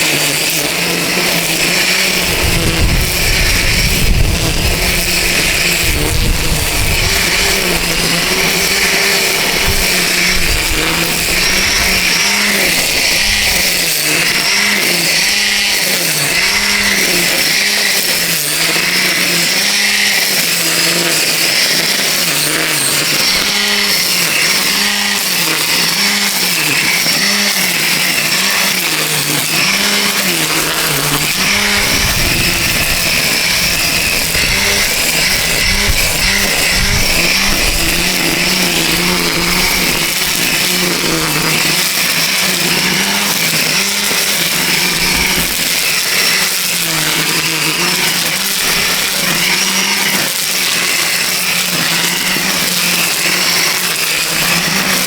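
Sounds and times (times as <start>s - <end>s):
string trimmer cutting grass: 0.0s - 55.0s.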